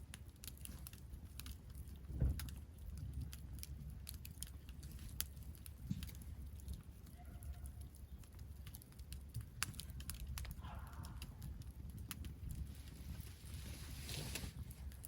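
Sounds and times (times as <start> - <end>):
campfire crackling: 0.0 - 15.0
low steady rumble: 0.0 - 15.0.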